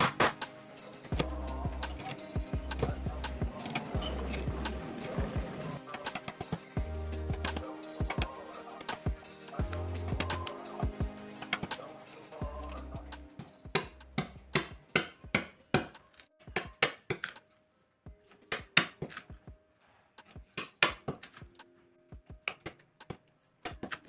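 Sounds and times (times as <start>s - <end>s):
faint background music: 0.0s - 24.0s.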